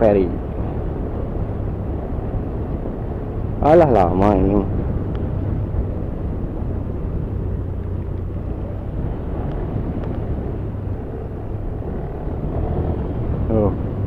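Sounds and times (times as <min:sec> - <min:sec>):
road and wind noise: 0:00.0 - 0:14.0
motorcycle engine running: 0:00.3 - 0:14.0.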